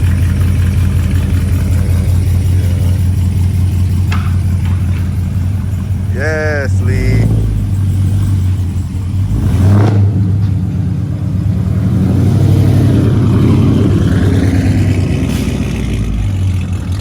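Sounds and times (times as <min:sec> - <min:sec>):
loud deep car engine running: 0:00.0 - 0:17.0.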